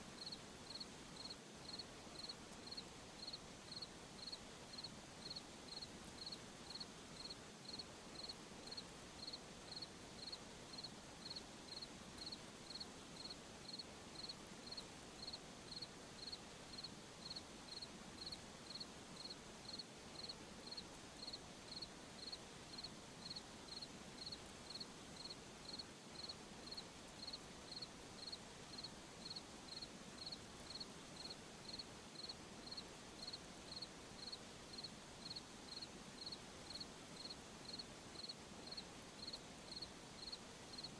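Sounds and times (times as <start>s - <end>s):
faint night ambience hiss: 0.0s - 40.9s
cricket chirping: 0.2s - 40.9s.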